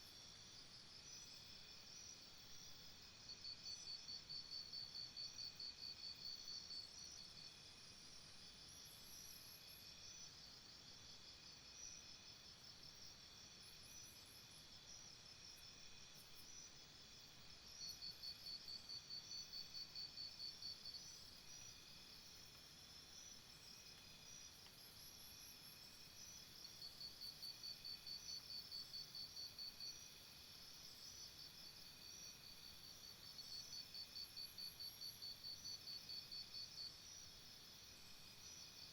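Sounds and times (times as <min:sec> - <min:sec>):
insects buzzing and chirping: 0:00.0 - 0:38.9.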